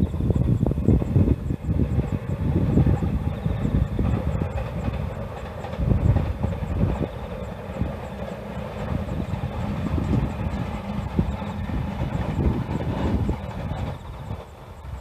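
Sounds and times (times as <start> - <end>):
distant trains rolling past: 0.0 - 15.0.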